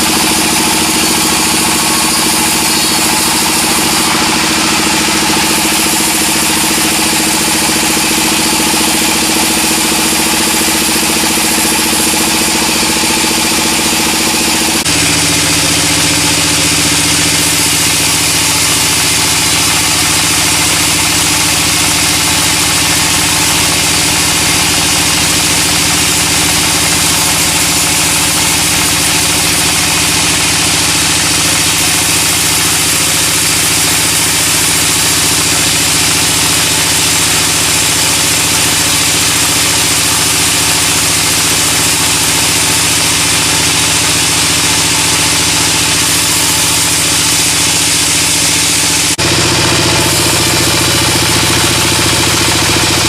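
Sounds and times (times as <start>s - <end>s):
sawmill machinery running: 0.0s - 53.0s.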